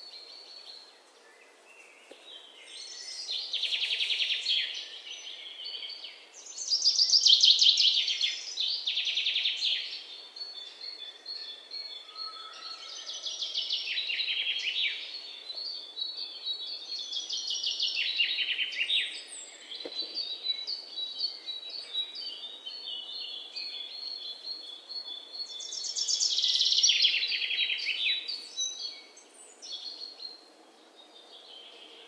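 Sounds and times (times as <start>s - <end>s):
small birds chirping and trilling: 0.0s - 32.0s.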